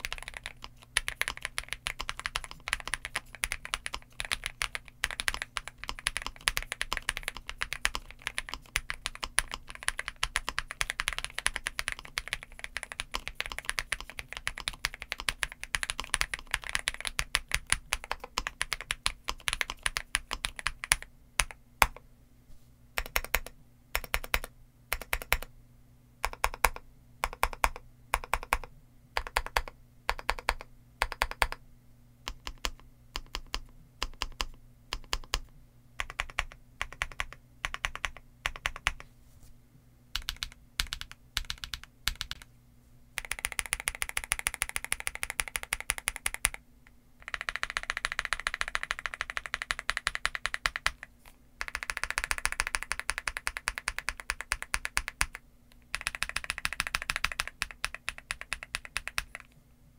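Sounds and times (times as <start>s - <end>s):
mechanical keyboard typing: 0.0s - 22.0s, 23.0s - 25.5s, 26.2s - 31.6s, 32.3s - 39.0s, 40.2s - 42.5s, 43.2s - 46.6s, 47.2s - 59.5s.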